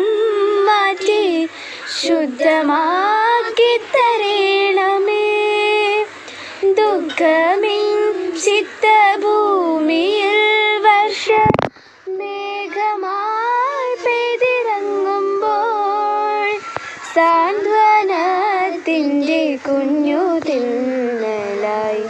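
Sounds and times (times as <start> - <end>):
girls singing together: 0.0 - 22.0.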